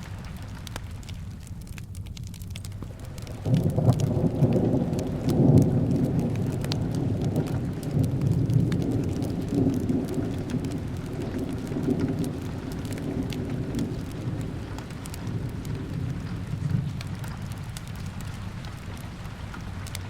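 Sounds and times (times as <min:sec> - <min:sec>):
fireplace crackling: 0:00.0 - 0:20.0
low rolling rumble: 0:00.0 - 0:20.0
steady rain: 0:00.0 - 0:20.0.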